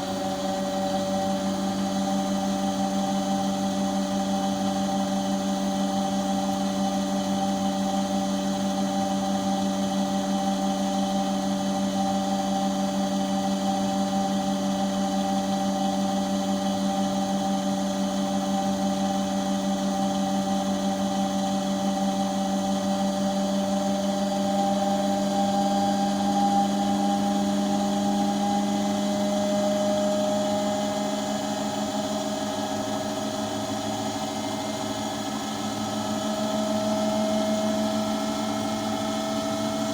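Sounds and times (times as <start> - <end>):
washing machine humming and whining: 0.0 - 39.9.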